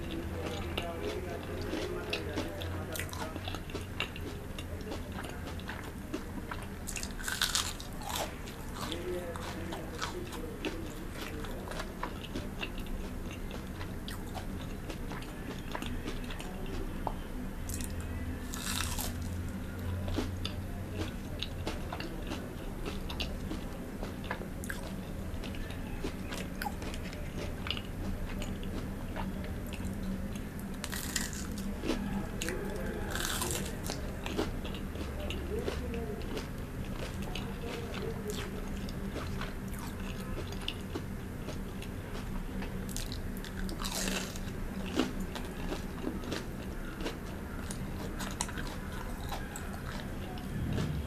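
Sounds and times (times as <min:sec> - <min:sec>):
crunching fried food: 0:00.0 - 0:51.0.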